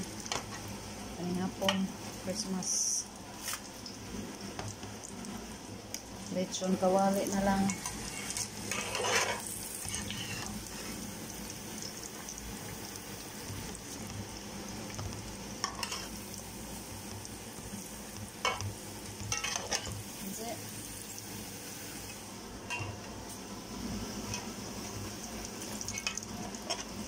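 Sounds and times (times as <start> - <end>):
meat sizzling and bubbling in oil: 0.0 - 27.0.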